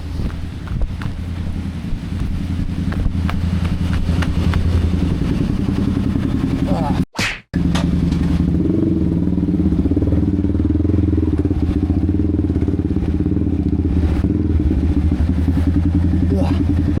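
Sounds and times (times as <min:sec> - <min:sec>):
motorcycle engine running steadily: 0:00.0 - 0:07.0, 0:07.6 - 0:17.0.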